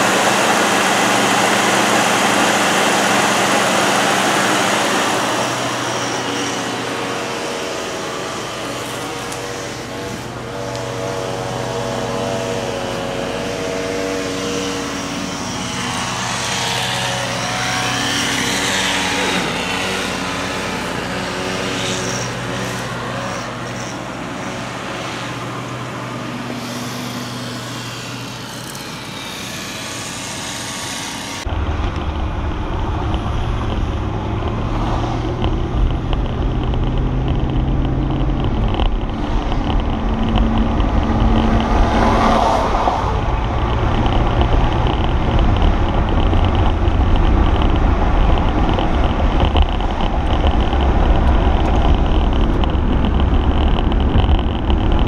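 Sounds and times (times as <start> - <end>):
deep engine rumble and road noise: 0.0 - 55.0.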